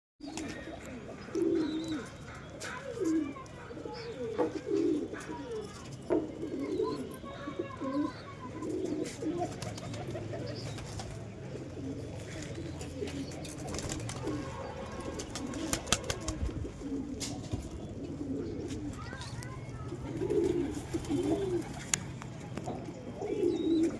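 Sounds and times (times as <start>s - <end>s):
pigeons cooing: 0.2s - 23.9s.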